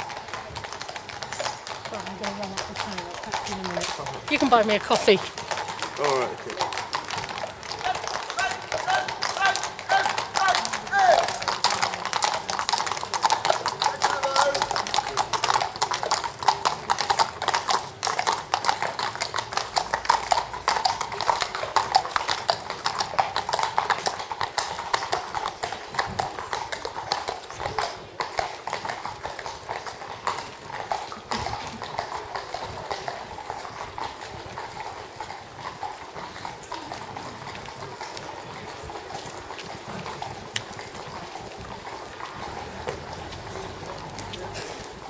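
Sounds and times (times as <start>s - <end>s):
horse hooves clip-clopping on tarmac: 0.0s - 45.0s.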